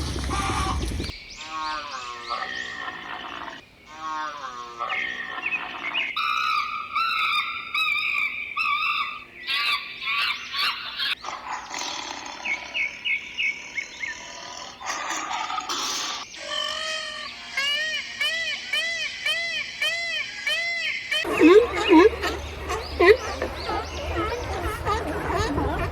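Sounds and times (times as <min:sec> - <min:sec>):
animal calls and cries: 0:00.0 - 0:25.9.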